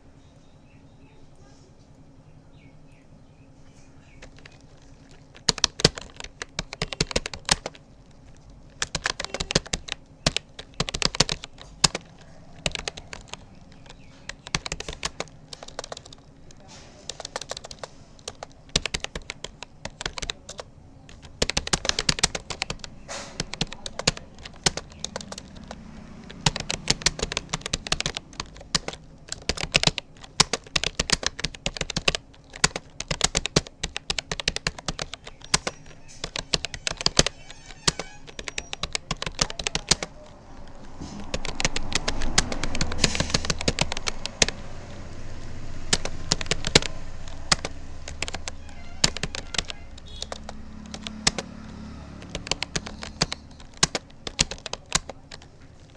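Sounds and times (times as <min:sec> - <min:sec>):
keyboard key clicks: 0:04.1 - 0:44.6, 0:45.3 - 0:55.9.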